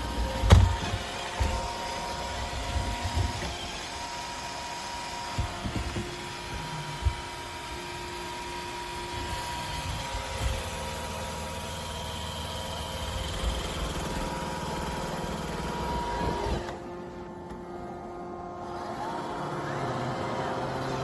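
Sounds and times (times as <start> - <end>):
robot vacuum motor hum: 0.0 - 21.0.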